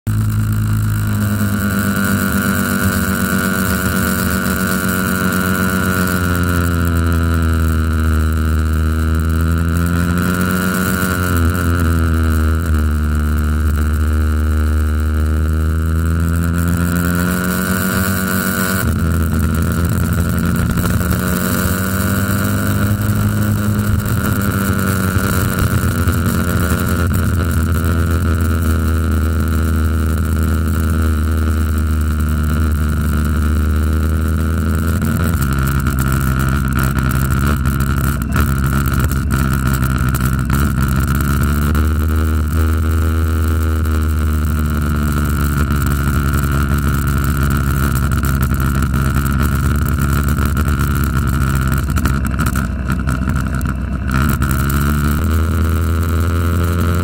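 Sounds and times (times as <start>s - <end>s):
motorcycle engine running: 0.0s - 57.0s
steady high whine: 0.1s - 57.0s.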